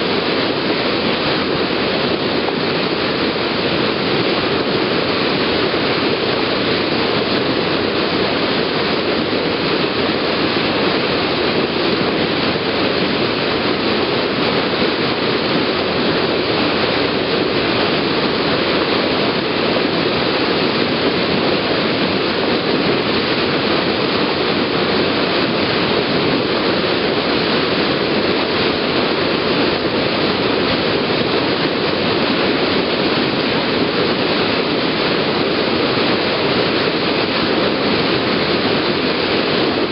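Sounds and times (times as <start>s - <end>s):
bow wave rushing and splashing: 0.0s - 39.9s.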